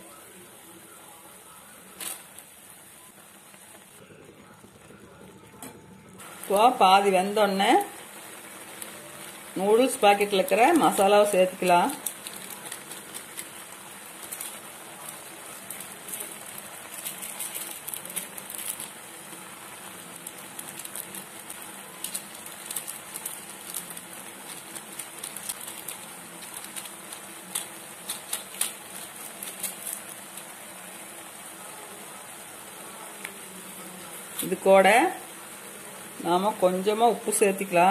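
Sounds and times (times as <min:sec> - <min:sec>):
noodles bubbling in pan: 0:00.0 - 0:37.9.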